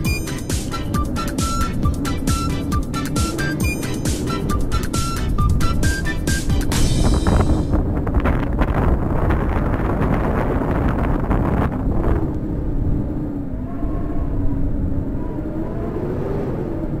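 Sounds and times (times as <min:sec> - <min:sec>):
wavering hum: 0:00.0 - 0:17.0
wind buffeting microphone: 0:00.0 - 0:17.0.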